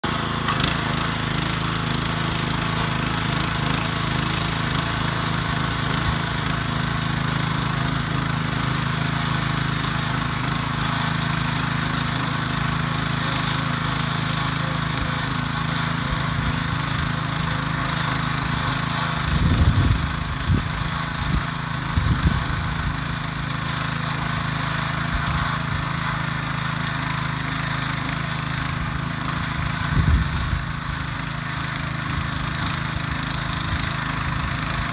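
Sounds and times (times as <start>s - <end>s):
motor hoe running: 0.0s - 34.9s
tines churning soil: 0.0s - 34.9s.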